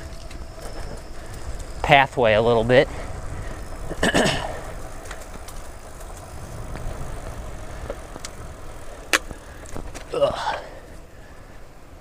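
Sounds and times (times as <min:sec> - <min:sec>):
wind on microphone: 0:00.0 - 0:10.0
bicycle tyre noise: 0:00.0 - 0:12.0
faint bike clicks: 0:00.0 - 0:12.0.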